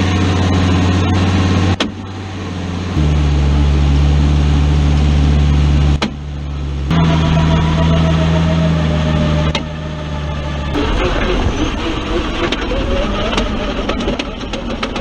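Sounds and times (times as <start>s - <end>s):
truck drivetrain drone: 0.0s - 15.0s.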